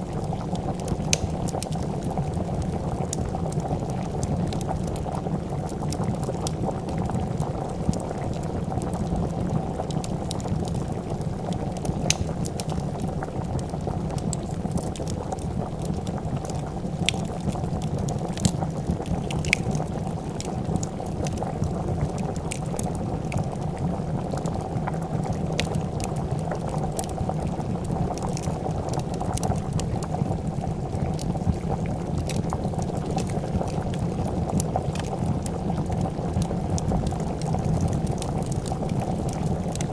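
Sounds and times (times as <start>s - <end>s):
soup bubbling at a boil: 0.0s - 39.9s
wood fire crackling: 0.0s - 39.9s.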